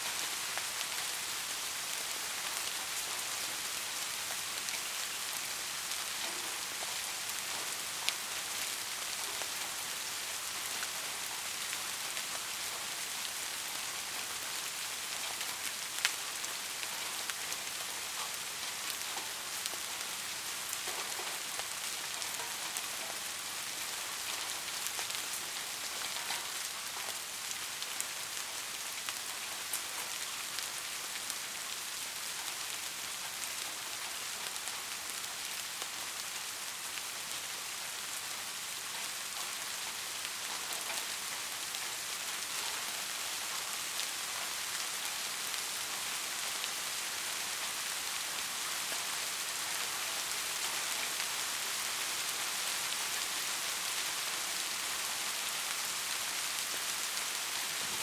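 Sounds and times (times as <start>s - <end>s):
raindrops hitting close by: 0.0s - 58.0s
steady rain falling: 0.0s - 58.0s.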